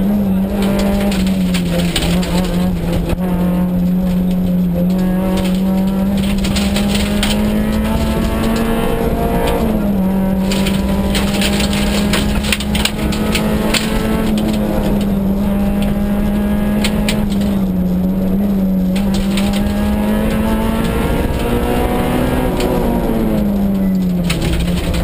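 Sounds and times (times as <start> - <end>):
rally car engine at high revs: 0.0 - 25.0.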